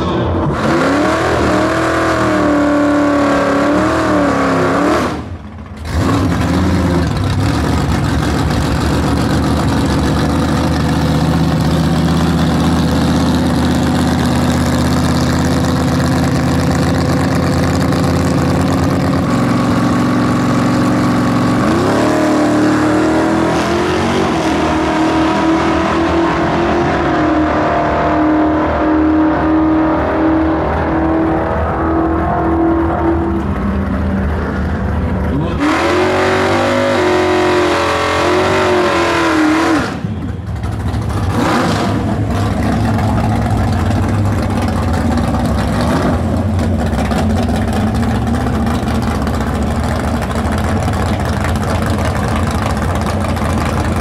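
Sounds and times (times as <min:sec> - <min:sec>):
drag car engine revving: 0:00.0 - 0:54.0.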